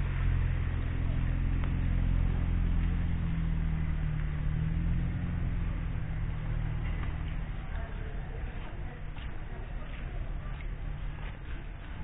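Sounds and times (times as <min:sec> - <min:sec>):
motorcycle engine running low: 0:00.0 - 0:12.0.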